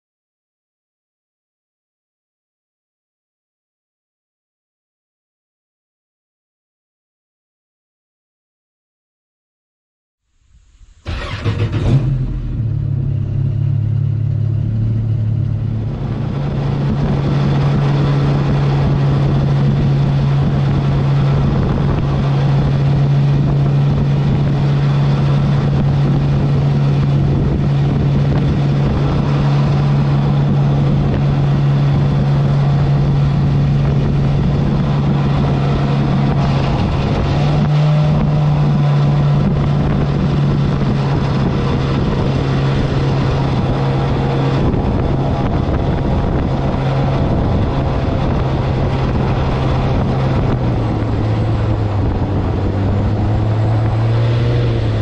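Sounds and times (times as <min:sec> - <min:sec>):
jet boat engine: 0:10.8 - 0:55.0.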